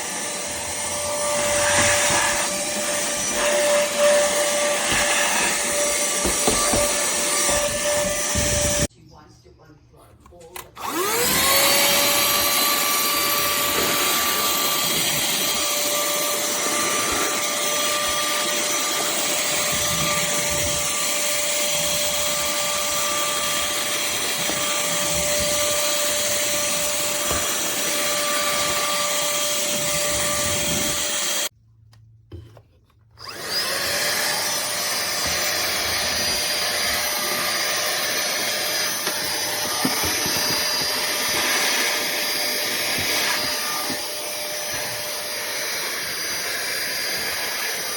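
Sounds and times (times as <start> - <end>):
handheld vacuum cleaner whine: 0.0 - 8.9, 10.8 - 31.5, 33.2 - 47.9.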